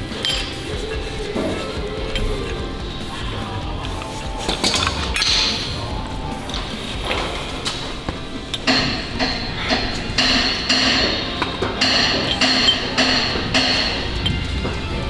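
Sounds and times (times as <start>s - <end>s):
hand tool striking metal: 0.0s - 15.0s.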